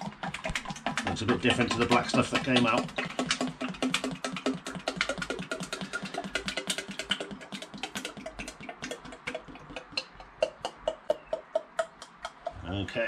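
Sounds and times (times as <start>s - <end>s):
drum glugging: 0.0s - 12.6s.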